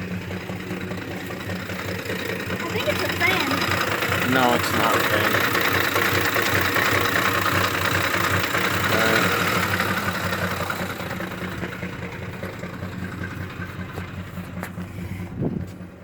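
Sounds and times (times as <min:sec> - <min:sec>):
engine idling rough with chatter: 0:00.0 - 0:16.0.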